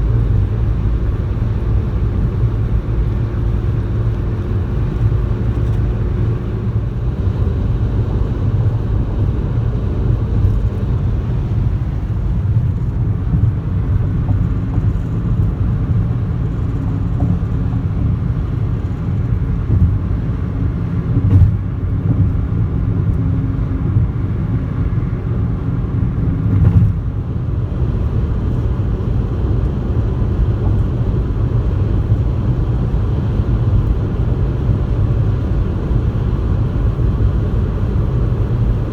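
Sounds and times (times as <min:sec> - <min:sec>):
car interior road rumble: 0:00.0 - 0:38.9.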